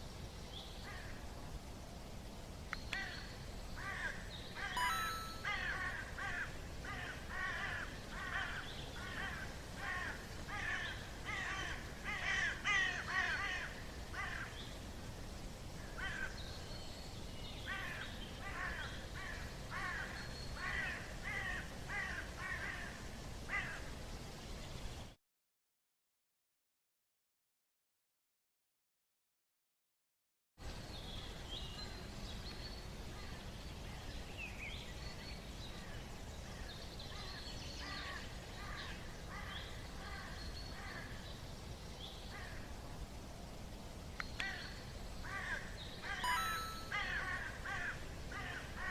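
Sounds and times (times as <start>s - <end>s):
low background noise: 0.0s - 25.2s, 30.6s - 48.9s.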